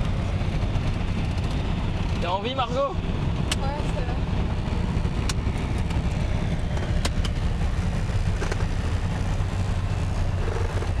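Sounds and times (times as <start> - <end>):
plane engine drone: 0.0 - 11.0.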